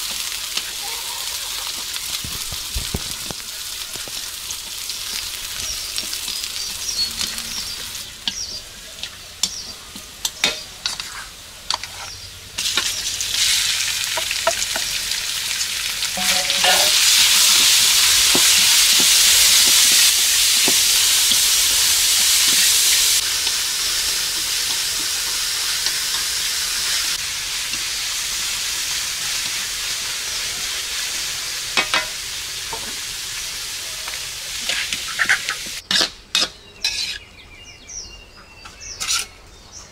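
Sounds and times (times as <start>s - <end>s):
food sizzling in a wok: 0.0s - 37.2s.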